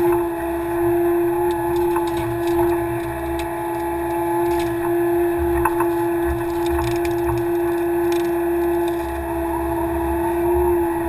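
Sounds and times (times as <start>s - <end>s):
excavator engine rumble: 0.0s - 11.0s
hydraulic whine: 0.0s - 11.0s.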